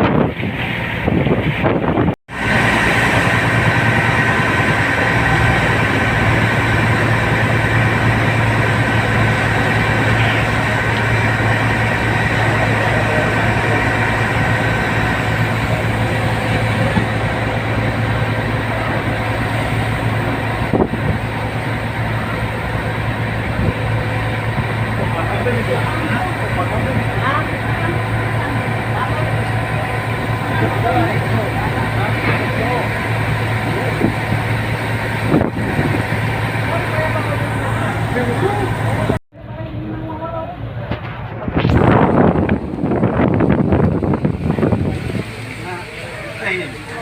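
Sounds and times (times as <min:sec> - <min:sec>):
ferry engine low hum: 0:00.0 - 0:47.0.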